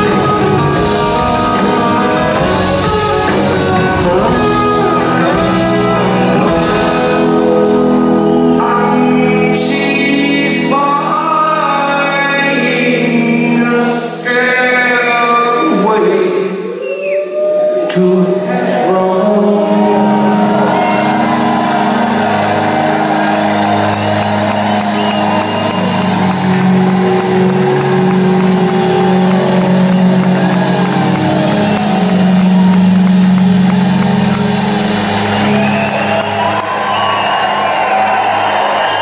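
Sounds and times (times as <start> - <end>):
crowd cheering: 0.0 - 11.2, 16.8 - 39.0
rock band holding sustained chord: 0.0 - 13.6, 19.7 - 39.0.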